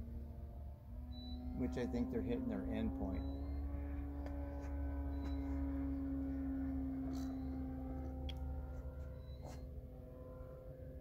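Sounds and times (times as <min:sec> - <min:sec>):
low rumble: 0:00.0 - 0:11.0
model airplane motor humming: 0:00.0 - 0:11.0.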